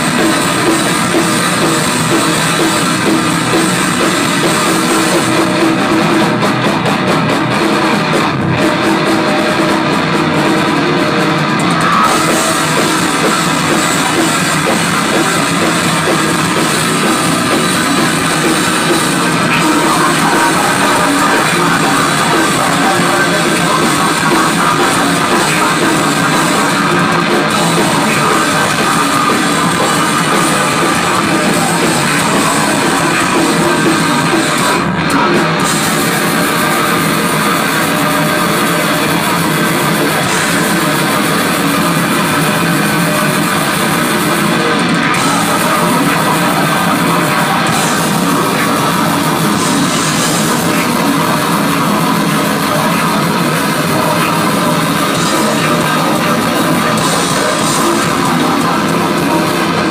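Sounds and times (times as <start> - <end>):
distorted electric guitars: 0.0 - 59.9
drums: 0.0 - 59.9.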